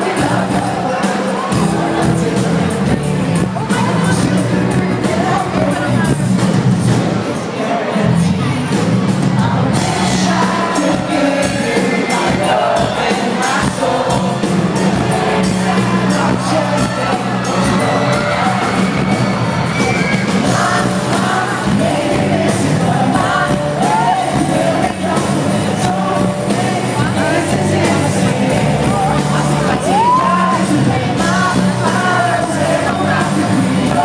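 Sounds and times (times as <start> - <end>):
crowd noise: 0.0 - 34.0
lead singer singing: 0.0 - 34.0
pop-rock band playing: 0.0 - 34.0.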